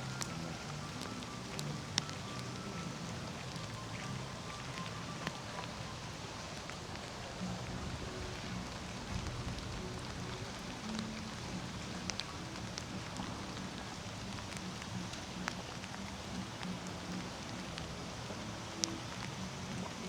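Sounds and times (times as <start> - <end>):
raindrops ticking close by: 0.0 - 20.0
steady rainfall: 0.0 - 20.0.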